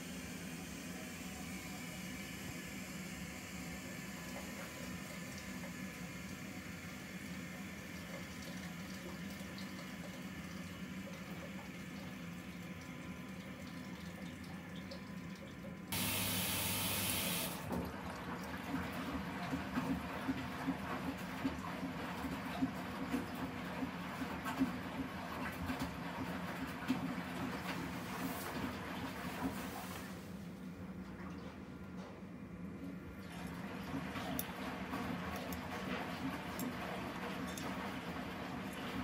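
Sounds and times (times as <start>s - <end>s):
washing machine hum: 0.0s - 39.0s.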